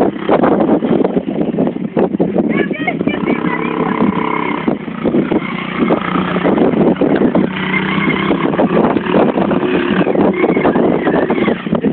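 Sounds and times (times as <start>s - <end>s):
quad engine revving: 0.0s - 1.4s, 2.6s - 11.9s.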